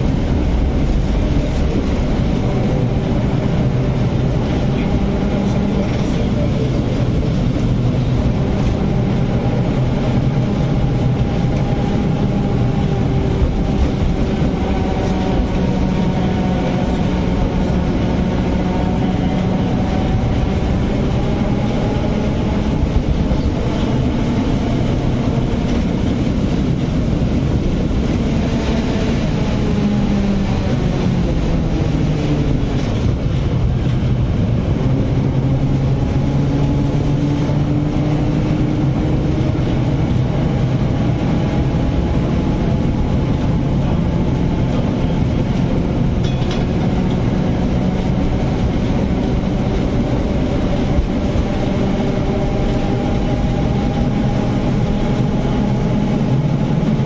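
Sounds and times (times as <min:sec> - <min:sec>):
tram motor whine: 0:00.0 - 0:57.0
tram wheels rumbling on rail: 0:00.0 - 0:57.0.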